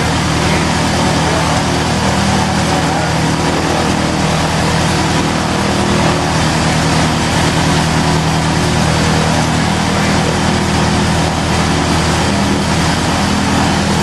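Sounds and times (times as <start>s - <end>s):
aircraft piston engine and propeller: 0.0s - 14.0s.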